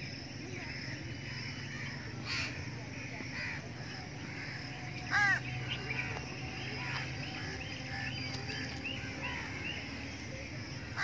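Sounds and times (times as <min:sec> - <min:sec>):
small birds chirping: 0:00.0 - 0:11.0
loud harsh bird call: 0:00.6 - 0:10.2.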